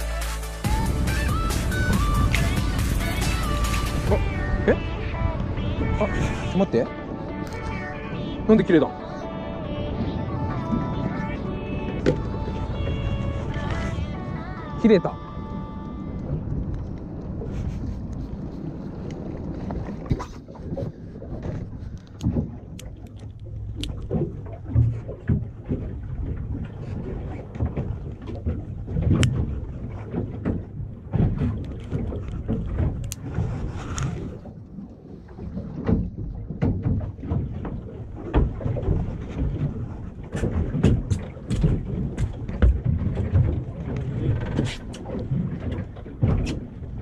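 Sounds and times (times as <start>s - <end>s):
boat engine rumble: 0.0s - 47.0s
wind buffeting microphone: 0.7s - 47.0s.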